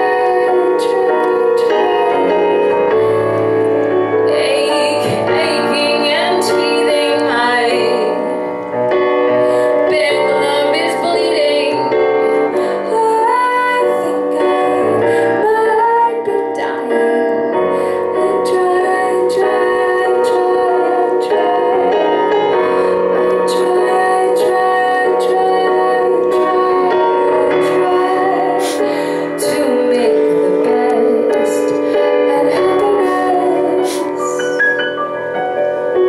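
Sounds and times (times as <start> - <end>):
woman singing into microphone: 0.0 - 34.8
instrumental accompaniment: 0.0 - 36.0.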